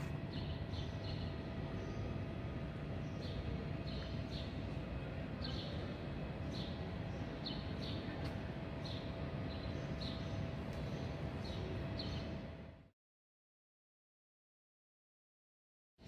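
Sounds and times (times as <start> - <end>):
faint hum: 0.0 - 12.9.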